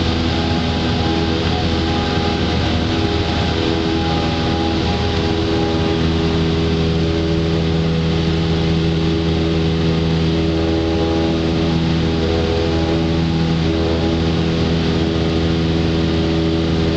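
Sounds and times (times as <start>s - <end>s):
aircraft engine and propeller: 0.0s - 16.9s.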